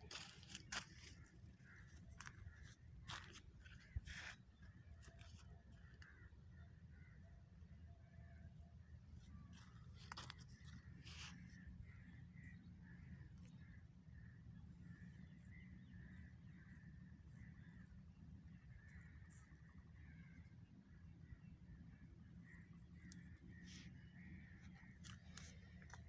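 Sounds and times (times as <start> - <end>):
faint bird calls: 0.0 - 26.0
low background rumble: 0.0 - 26.0.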